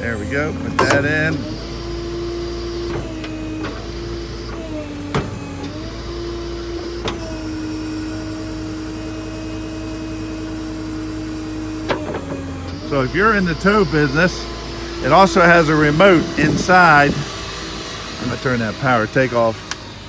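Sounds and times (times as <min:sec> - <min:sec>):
hydraulic pump whine: 0:00.0 - 0:20.0
truck engine low rumble: 0:00.0 - 0:20.0.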